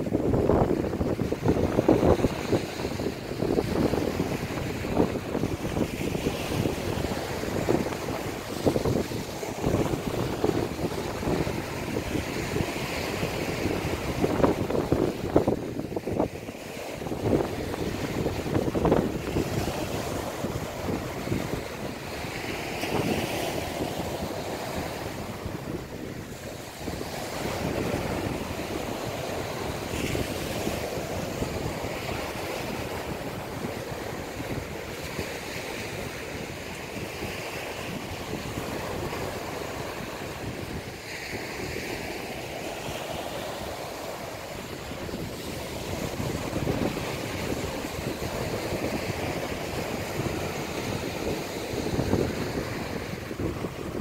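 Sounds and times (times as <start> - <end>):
small waves washing on a beach: 0.0 - 54.0.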